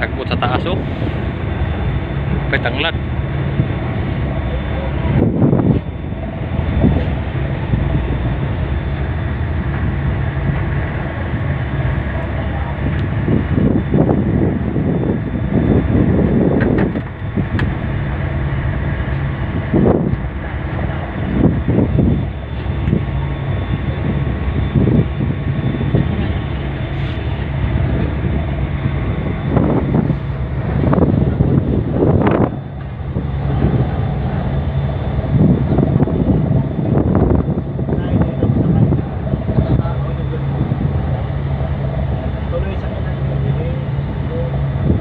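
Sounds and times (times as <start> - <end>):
ship engines droning: 0.0 - 45.0
wind buffeting microphone: 0.0 - 45.0.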